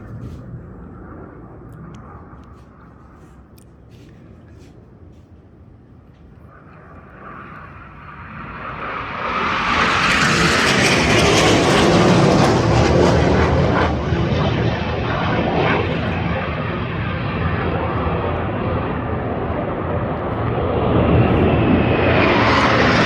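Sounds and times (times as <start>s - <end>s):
jet roaring past: 0.0s - 4.8s, 5.9s - 23.0s.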